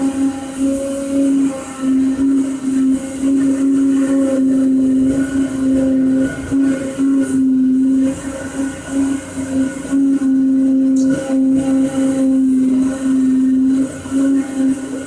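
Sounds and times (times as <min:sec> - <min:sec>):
machine motors whining: 0:00.0 - 0:15.0.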